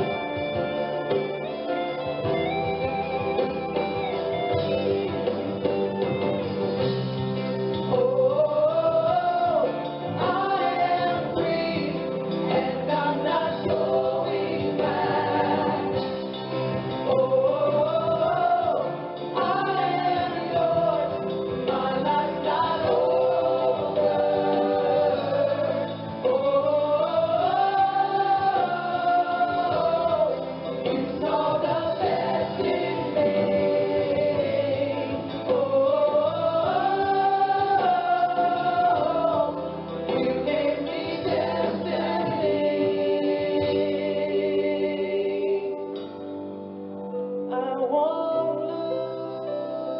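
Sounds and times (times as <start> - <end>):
gospel choir singing: 0.0 - 46.8
steady musical accompaniment: 0.0 - 49.9.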